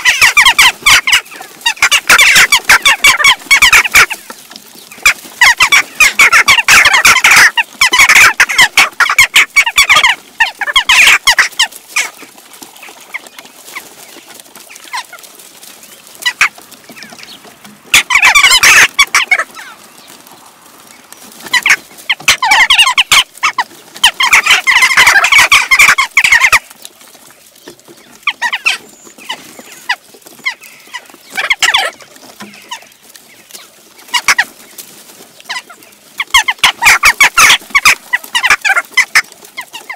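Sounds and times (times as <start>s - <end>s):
flock of jackdaws calling: 0.0s - 39.9s.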